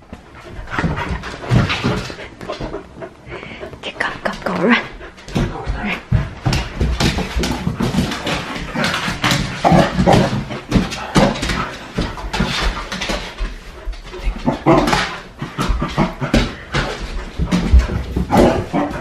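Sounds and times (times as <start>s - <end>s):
paws clicking on hard floor: 0.0s - 19.0s.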